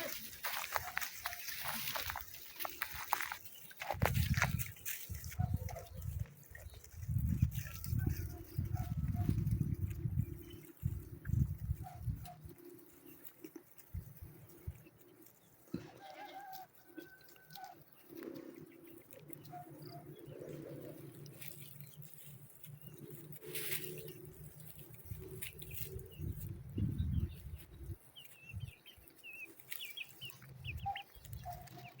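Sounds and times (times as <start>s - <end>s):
chickens clucking: 0.0s - 32.0s
chicks peeping: 0.0s - 32.0s.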